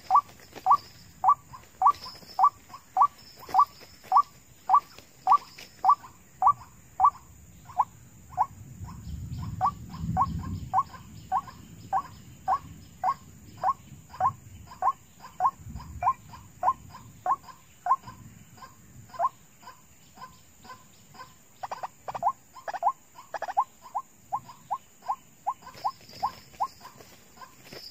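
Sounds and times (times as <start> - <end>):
waterhen calling: 0.0 - 27.9.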